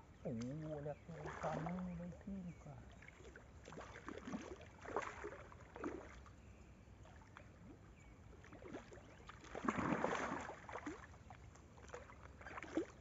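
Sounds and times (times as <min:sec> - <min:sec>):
water splashing in shallows: 0:00.2 - 0:13.0.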